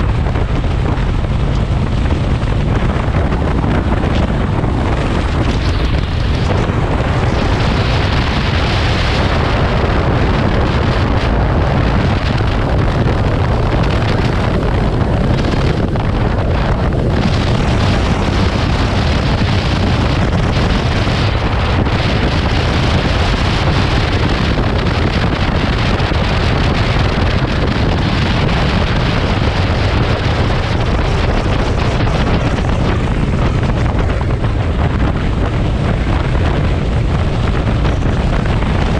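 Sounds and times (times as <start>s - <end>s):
motorcycle engine rumble: 0.0s - 38.9s
wind buffeting microphone: 0.0s - 38.9s.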